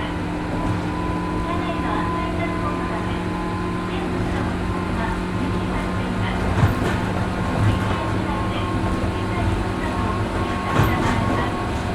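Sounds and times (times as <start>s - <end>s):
train cabin rumble: 0.0s - 11.9s.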